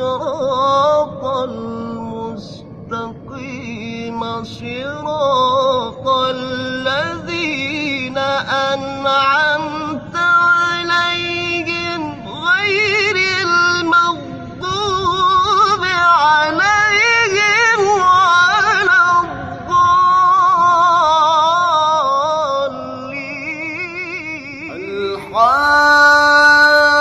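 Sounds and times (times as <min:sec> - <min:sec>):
man reciting melodically: 0:00.0 - 0:27.0.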